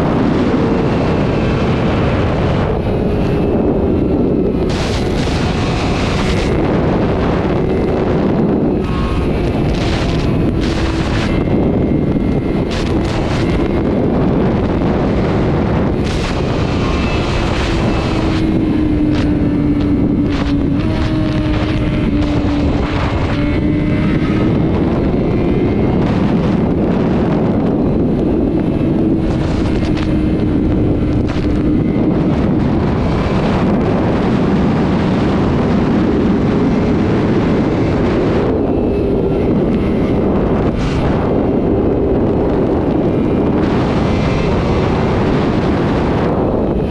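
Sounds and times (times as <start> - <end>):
motorcycle engine at high speed: 0.0 - 46.9
wind rushing over microphone: 0.0 - 46.9.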